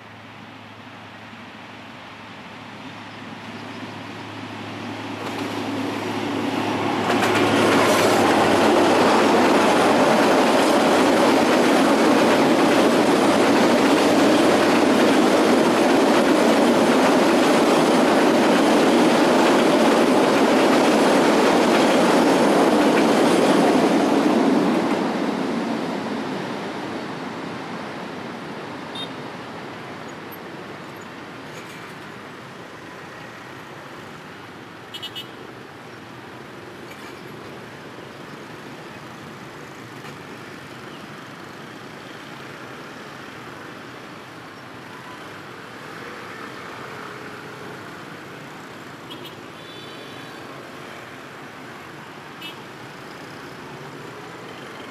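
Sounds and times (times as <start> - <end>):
freight train passing: 0.1 - 54.9.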